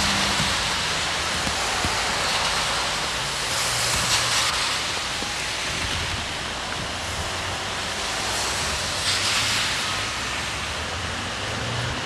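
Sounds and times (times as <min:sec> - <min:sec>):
rain hissing: 0:00.0 - 0:12.0
traffic on wet streets: 0:00.0 - 0:12.0.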